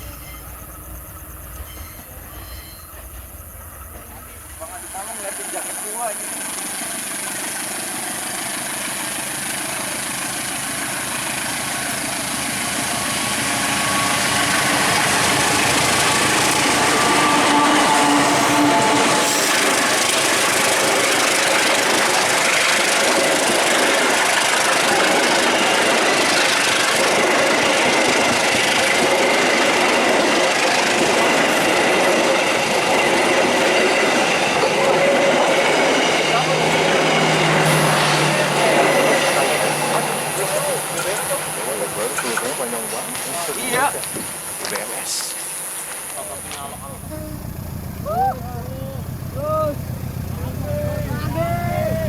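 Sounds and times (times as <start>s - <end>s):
diesel locomotive engine: 0.0s - 52.0s
train wheels on rails: 0.0s - 52.0s.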